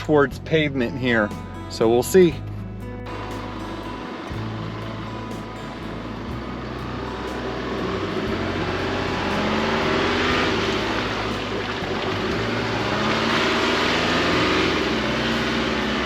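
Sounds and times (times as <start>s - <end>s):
tyre and road noise: 1.8s - 16.0s
pickup truck engine pulling: 3.1s - 16.0s.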